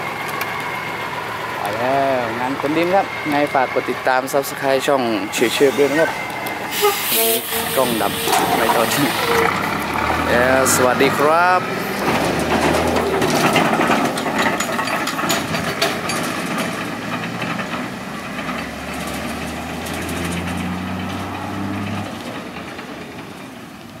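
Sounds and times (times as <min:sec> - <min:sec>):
tyres crackling over gravel: 0:00.0 - 0:21.4
diesel truck engine under load: 0:00.0 - 0:24.0.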